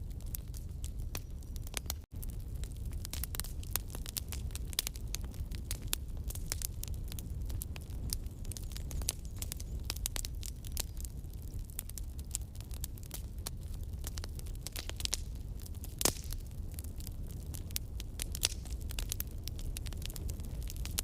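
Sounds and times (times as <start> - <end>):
burning wood snapping: 0.0 - 21.0
fire popping: 0.0 - 21.0
low rumble of flames: 0.0 - 21.0.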